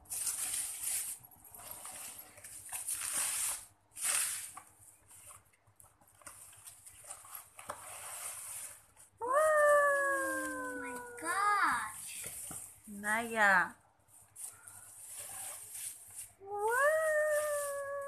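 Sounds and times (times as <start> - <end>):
bubble wrap and cardboard crinkling: 0.0 - 18.0.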